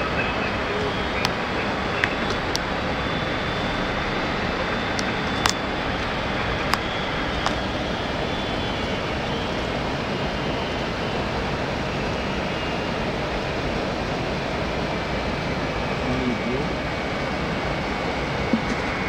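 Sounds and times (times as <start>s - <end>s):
airliner cabin airflow and engines: 0.0s - 19.0s
faint high whine: 0.0s - 19.0s.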